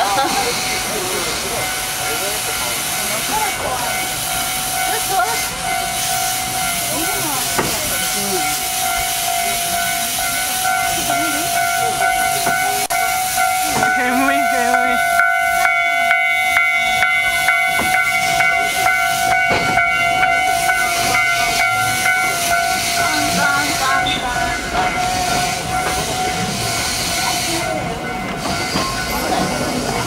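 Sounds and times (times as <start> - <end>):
steam train hissing: 0.0 - 30.0.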